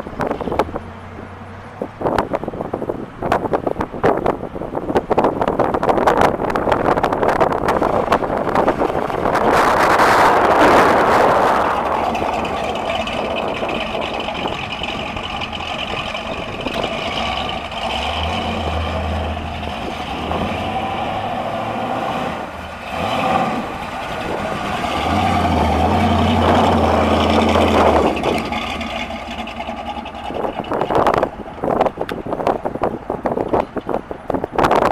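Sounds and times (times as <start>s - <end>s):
vee-eight engine running: 6.0s - 34.9s.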